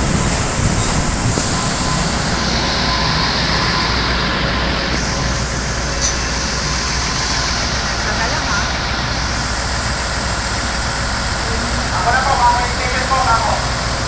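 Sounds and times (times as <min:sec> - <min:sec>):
diesel train engine rumble: 0:00.0 - 0:14.0
train wheels on rails: 0:00.0 - 0:14.0.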